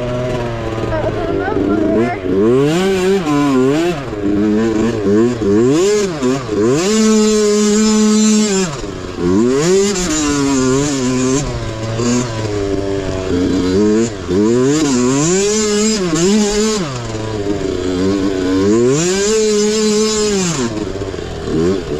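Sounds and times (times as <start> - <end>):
mini bike engine revving: 0.0 - 21.9.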